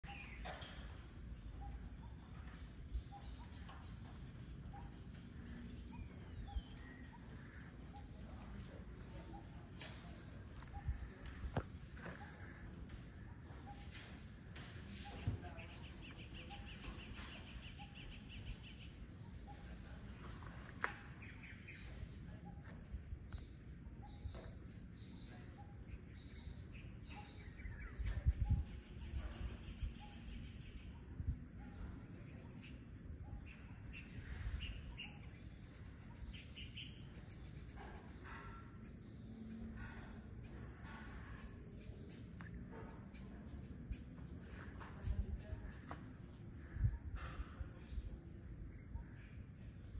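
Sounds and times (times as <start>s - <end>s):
bird calls and chirps: 0.0s - 49.4s.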